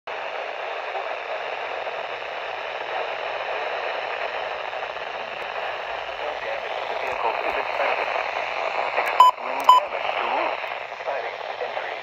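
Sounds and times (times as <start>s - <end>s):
radio static hiss: 0.1s - 12.0s.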